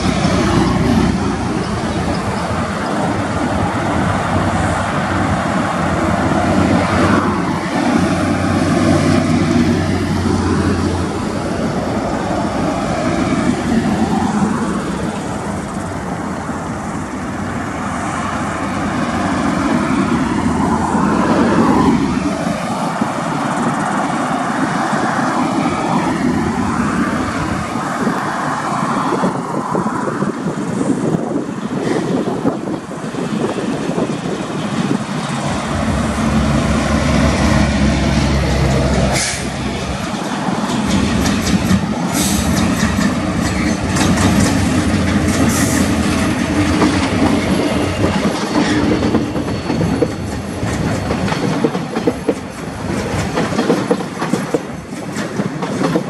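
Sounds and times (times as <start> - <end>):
locomotive engine drone: 0.0 - 56.0
road traffic passing: 0.0 - 56.0.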